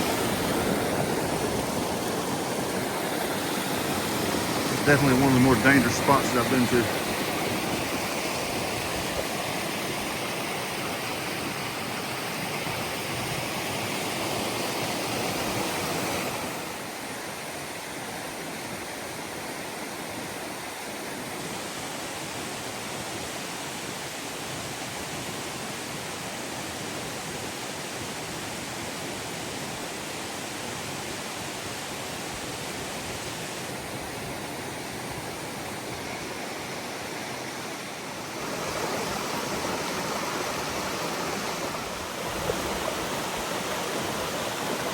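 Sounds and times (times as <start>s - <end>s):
waterfall rushing over rocks: 0.0s - 44.9s.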